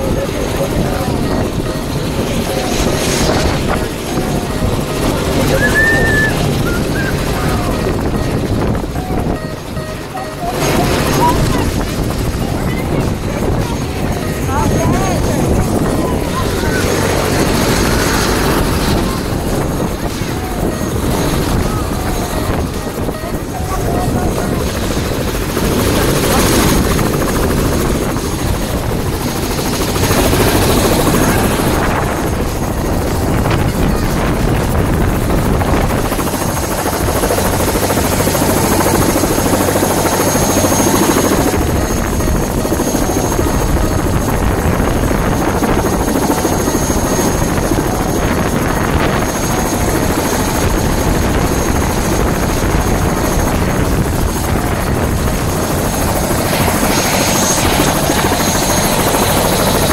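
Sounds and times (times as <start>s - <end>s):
helicopter rotor noise: 0.0s - 59.9s
high turbine whine: 0.0s - 59.9s.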